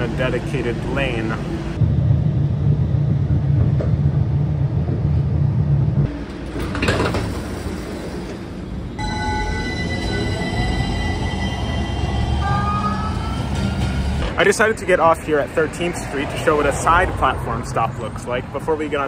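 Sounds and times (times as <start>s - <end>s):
tram running low rumble: 0.0s - 19.0s.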